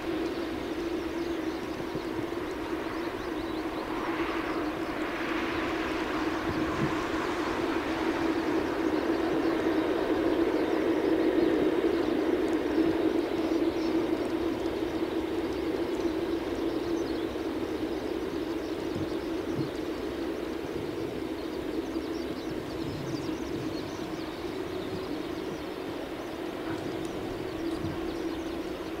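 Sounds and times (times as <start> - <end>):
jet aircraft taxiing drone: 0.0 - 29.0.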